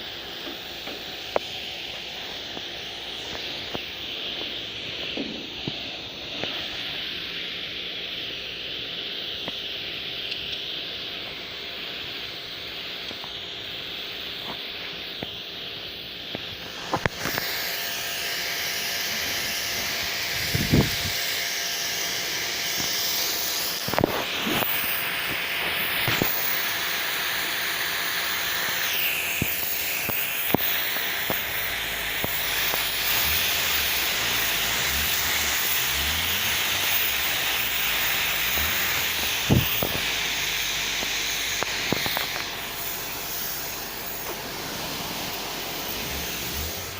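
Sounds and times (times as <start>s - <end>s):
pressure washer water jet hissing: 0.0s - 46.9s.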